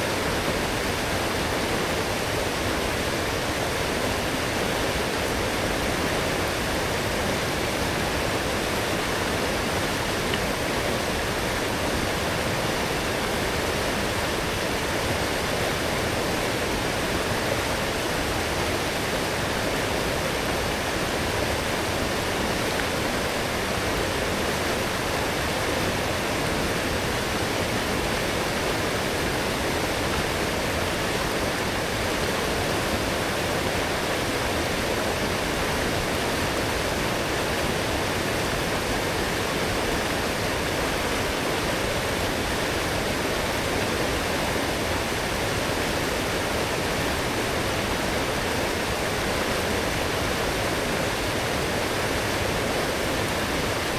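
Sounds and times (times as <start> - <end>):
forest stream rushing: 0.0 - 53.9.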